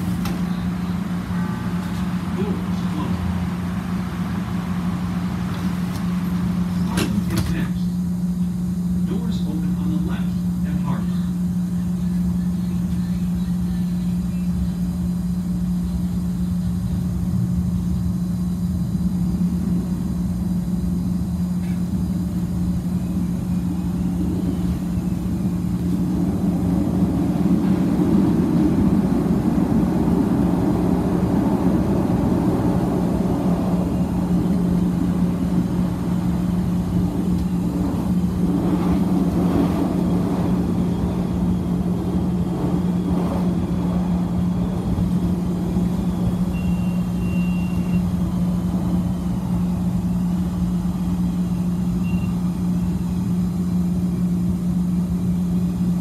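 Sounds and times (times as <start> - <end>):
steady low hum: 0.0 - 56.0
train rumbling on track: 0.0 - 56.0.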